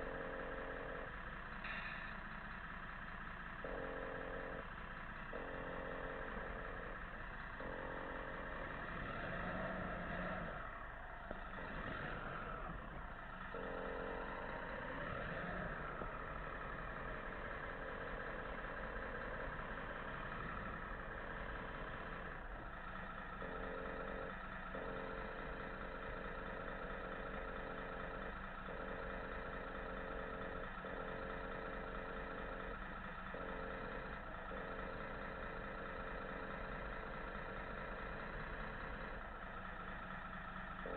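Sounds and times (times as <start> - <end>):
model truck motor hum: 0.0 - 40.9.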